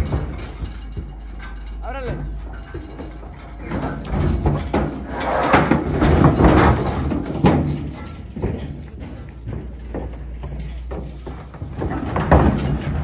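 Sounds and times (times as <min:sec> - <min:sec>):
metal gate rattling and clanking: 0:00.0 - 0:13.0.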